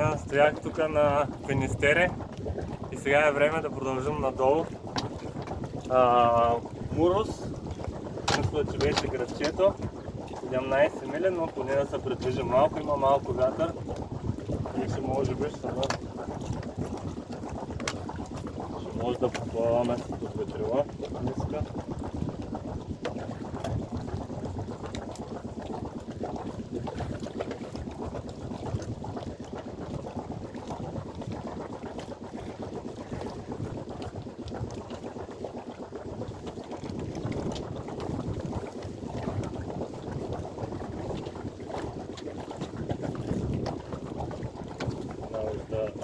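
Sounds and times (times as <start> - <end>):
water rushing along boat hull: 0.0 - 46.0.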